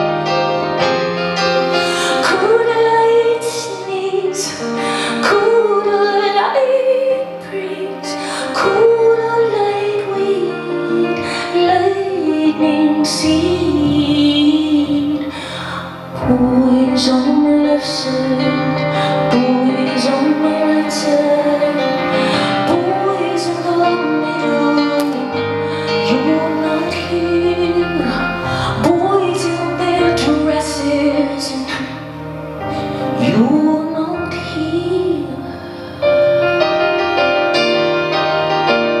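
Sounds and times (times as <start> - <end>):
keyboard chords: 0.0 - 39.0
woman singing: 1.8 - 36.1.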